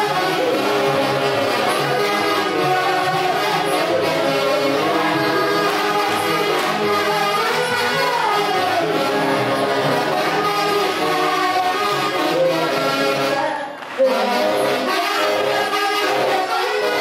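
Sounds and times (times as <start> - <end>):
brass band dance music: 0.0 - 17.0.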